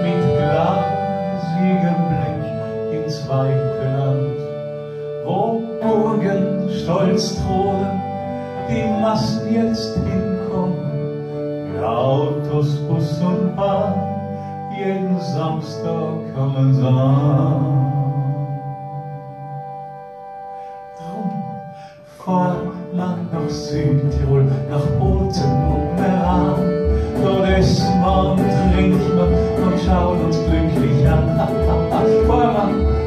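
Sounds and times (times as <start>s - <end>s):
man singing: 0.0s - 4.6s, 5.2s - 19.0s, 21.0s - 33.0s
classical guitar playing: 0.0s - 33.0s.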